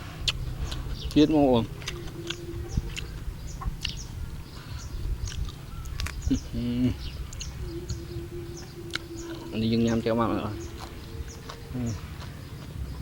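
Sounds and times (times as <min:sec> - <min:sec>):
birds chirping: 0:00.0 - 0:13.0
pitched bird call: 0:00.3 - 0:12.5.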